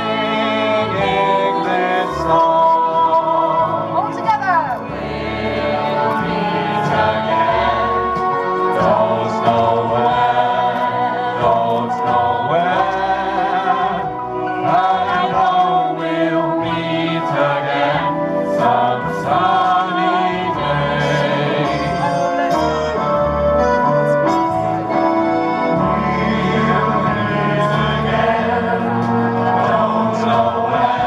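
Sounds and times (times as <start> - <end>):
group of people singing: 0.0 - 23.3, 25.2 - 31.0
instrumental backing music: 0.0 - 31.0.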